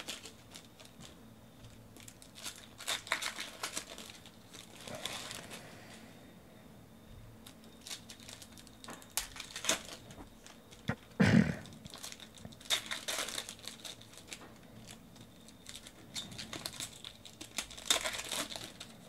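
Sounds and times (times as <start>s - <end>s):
crinkly rustling: 0.0s - 6.0s, 7.4s - 19.0s.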